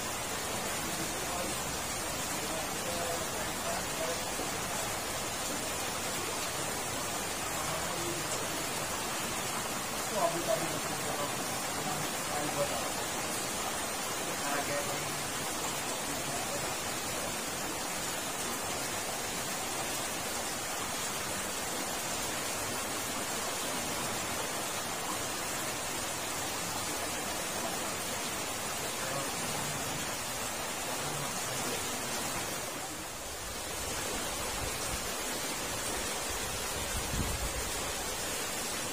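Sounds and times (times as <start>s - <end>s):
water rushing through culvert: 0.0s - 38.9s.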